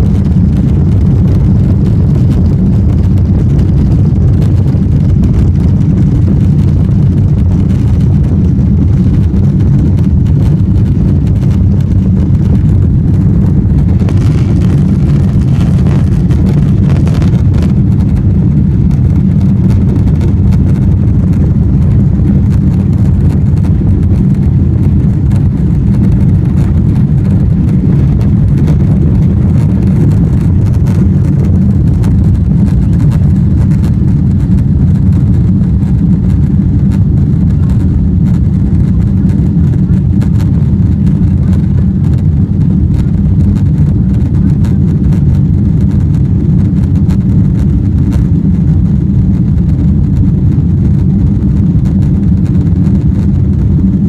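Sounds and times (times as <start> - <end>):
jet engines at takeoff thrust: 0.0 - 54.0
runway roll rumble: 0.0 - 54.0.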